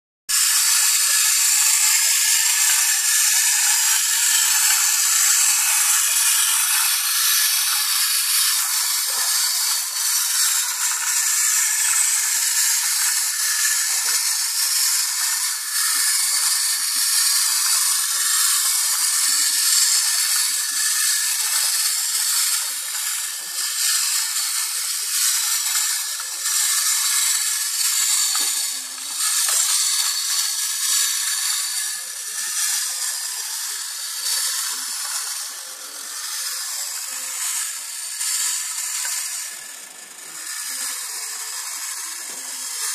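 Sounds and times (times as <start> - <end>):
clockwork toy whirring: 0.3 - 42.9.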